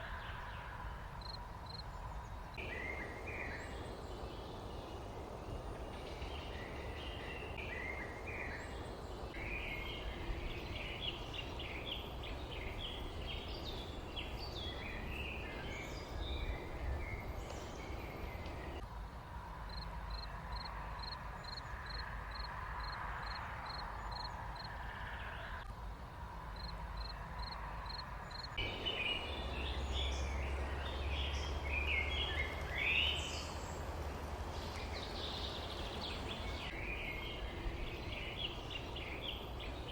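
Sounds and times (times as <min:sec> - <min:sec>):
small birds chirping: 0:00.0 - 0:18.8, 0:26.6 - 0:39.9.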